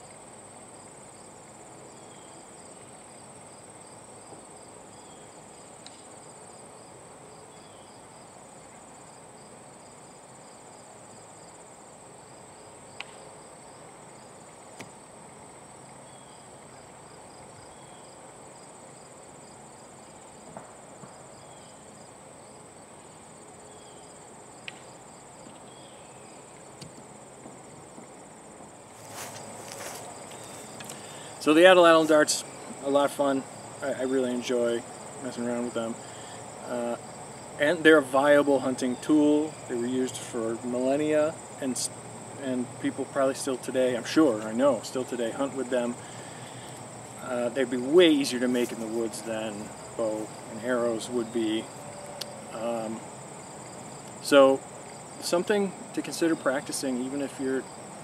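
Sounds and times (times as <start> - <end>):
crickets chirping: 0.0 - 58.0
pulsing insect call: 0.0 - 58.0.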